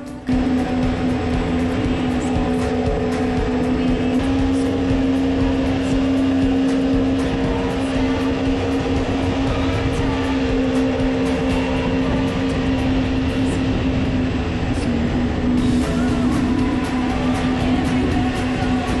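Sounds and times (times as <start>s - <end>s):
boat engine running hard: 0.0s - 19.0s
water rushing under hull: 0.0s - 19.0s.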